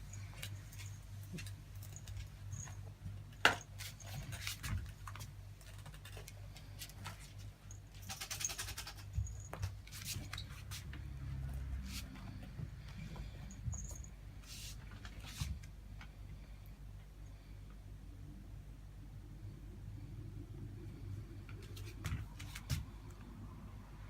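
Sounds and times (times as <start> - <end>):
low steady hum: 0.0 - 8.1, 9.0 - 24.0.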